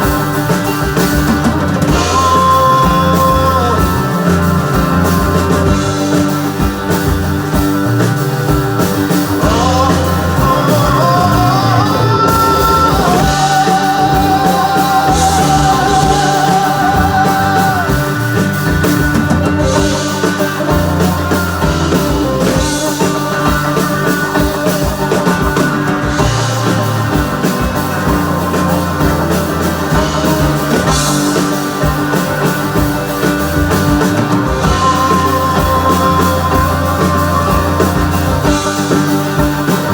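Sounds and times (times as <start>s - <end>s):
psychedelic rock music: 0.0s - 39.9s
sliding lead melody: 0.0s - 39.9s.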